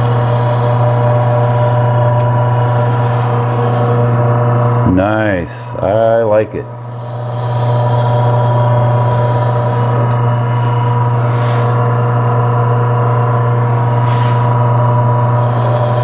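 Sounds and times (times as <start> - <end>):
meat slicer motor hum: 0.0 - 5.3, 6.7 - 16.0.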